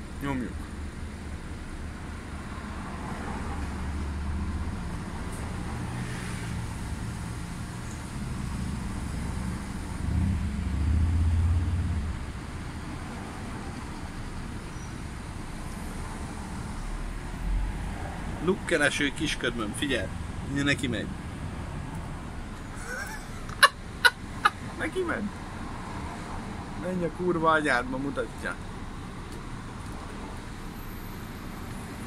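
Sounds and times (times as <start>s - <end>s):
traffic hum: 0.0s - 32.0s.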